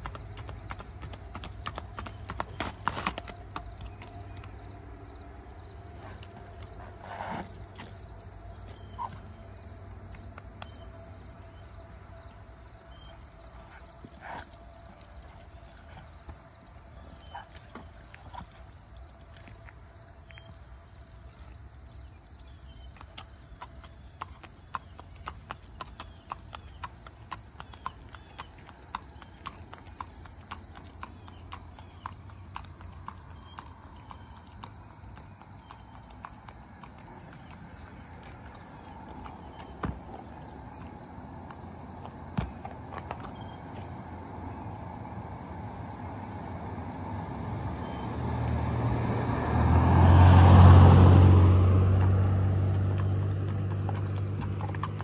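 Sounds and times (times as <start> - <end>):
horse hooves clip-clopping on asphalt: 0.0 - 48.3, 48.9 - 55.0
insects buzzing: 0.0 - 55.0.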